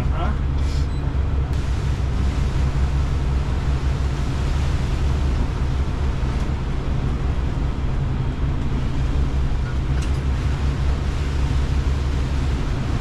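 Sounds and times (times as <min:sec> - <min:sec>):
deep low rumble: 0:00.0 - 0:13.0
heavy seas: 0:00.0 - 0:13.0
strong wind: 0:00.0 - 0:13.0.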